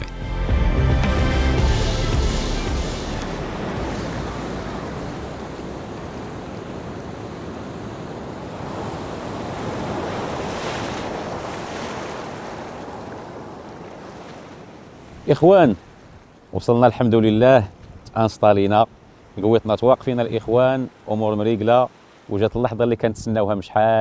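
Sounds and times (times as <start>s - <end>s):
sea surf washing in: 0.8s - 23.0s.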